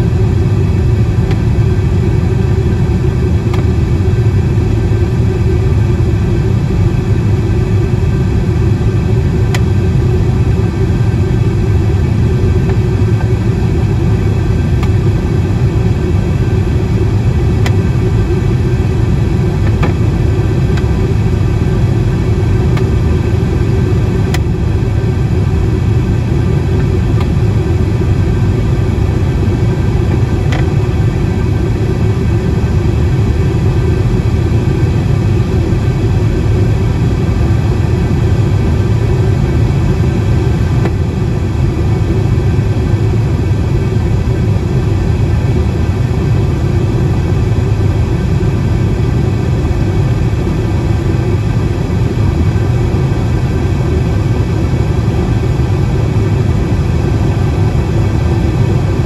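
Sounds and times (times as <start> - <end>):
airliner engines roaring: 0.0 - 59.0.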